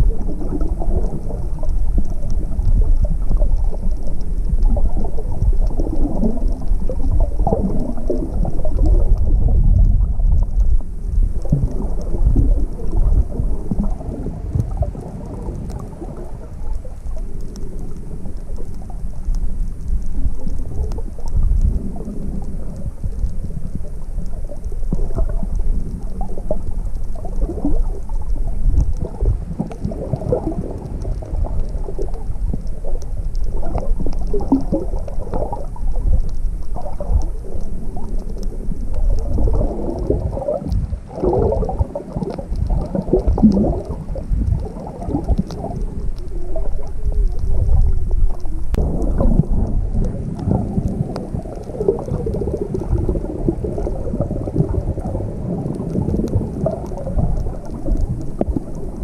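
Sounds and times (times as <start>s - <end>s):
faint crackling ticks: 0.0s - 59.0s
muffled underwater rumble: 0.0s - 59.0s.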